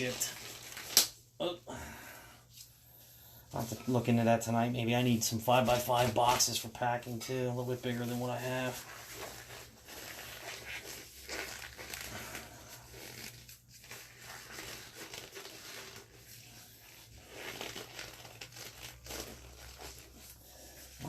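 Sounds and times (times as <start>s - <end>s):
gloves crinkling and rustling: 0.0s - 21.0s.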